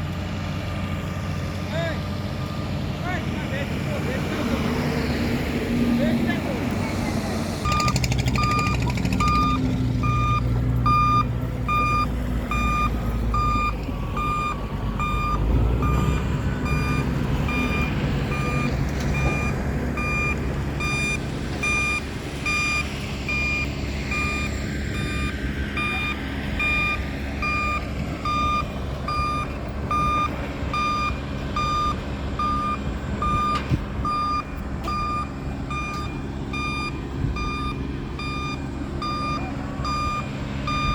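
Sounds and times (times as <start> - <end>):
diesel engine rumble: 0.0 - 40.9
reversing alarm beeping: 7.6 - 40.9.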